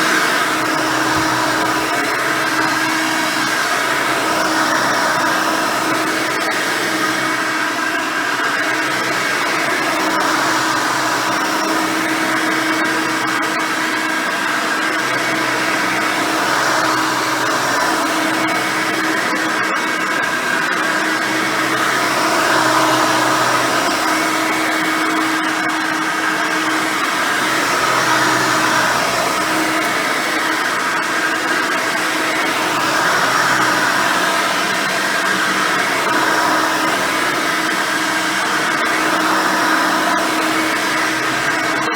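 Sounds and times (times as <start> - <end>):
vacuum cleaner whine: 0.0 - 41.9.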